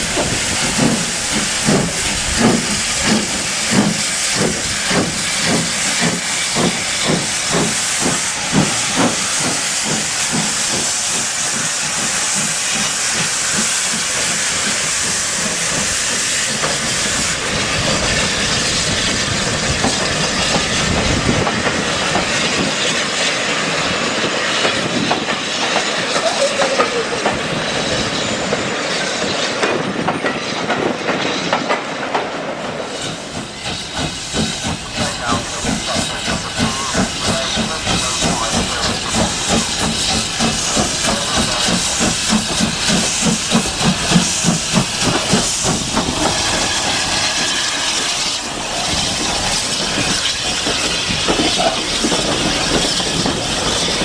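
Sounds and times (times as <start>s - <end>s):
steam train rhythmic beat: 0.0s - 22.7s, 33.0s - 54.0s
steam hissing from locomotive: 0.0s - 54.0s.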